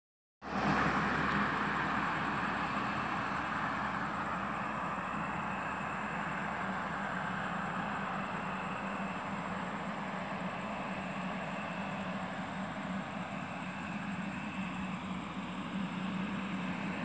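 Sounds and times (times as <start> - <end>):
low engine hum: 0.4 - 17.0
road traffic rushing: 0.4 - 17.0.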